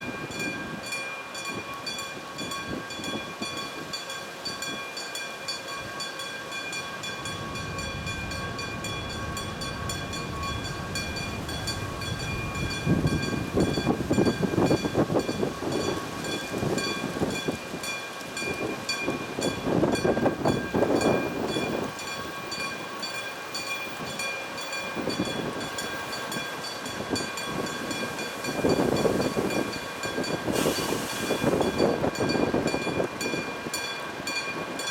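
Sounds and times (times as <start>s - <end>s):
diesel locomotive passing: 0.0s - 34.9s
wheel and rail noise: 0.0s - 34.9s.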